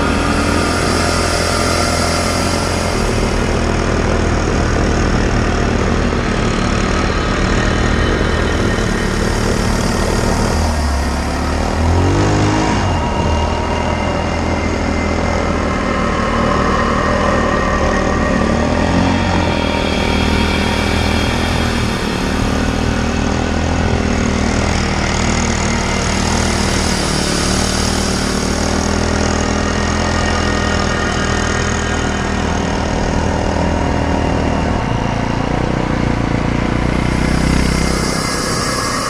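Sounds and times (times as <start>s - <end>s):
snowmobile engine running: 0.0s - 39.0s.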